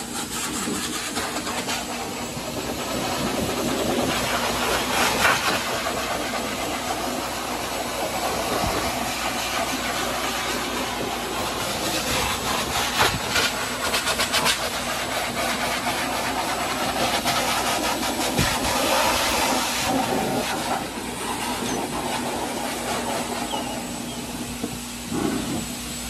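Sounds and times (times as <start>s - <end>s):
pet dryer blowing air: 0.0s - 26.0s.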